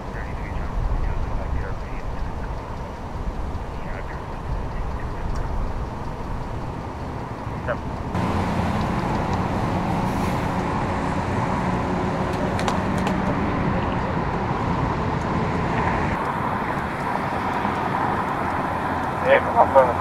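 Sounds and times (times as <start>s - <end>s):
car engines running: 0.0s - 20.0s
low engine hum: 0.0s - 20.0s.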